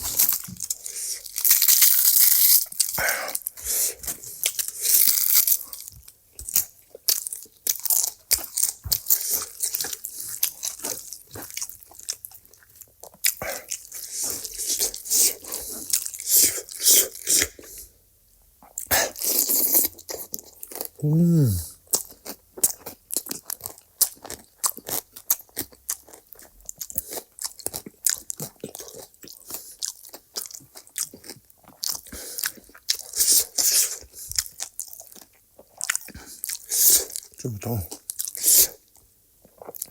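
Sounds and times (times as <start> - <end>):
person chewing crunchy food: 0.0 - 16.8, 18.7 - 38.7, 39.4 - 39.9.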